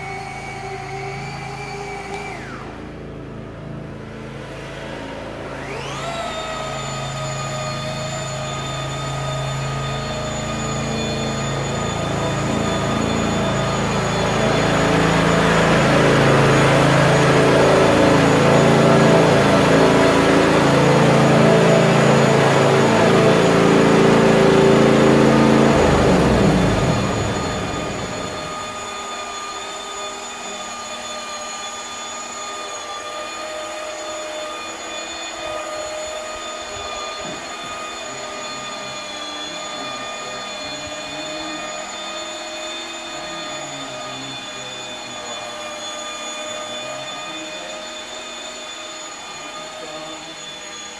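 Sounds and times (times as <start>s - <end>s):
motor humming: 0.0s - 50.9s.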